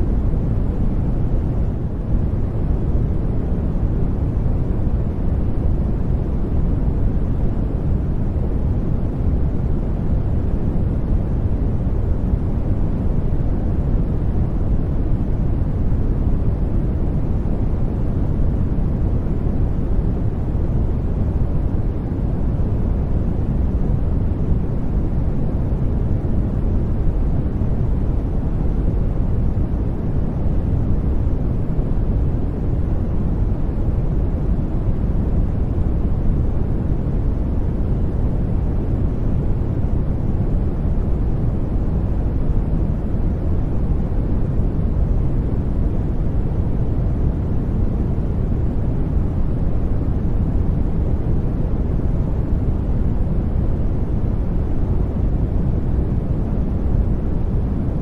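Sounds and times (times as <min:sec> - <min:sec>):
deep white noise rush: 0:00.0 - 0:58.0.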